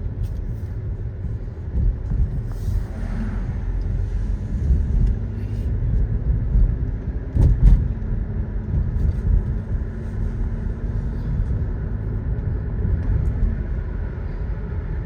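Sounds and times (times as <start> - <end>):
car running from inside cabin: 0.0 - 15.0.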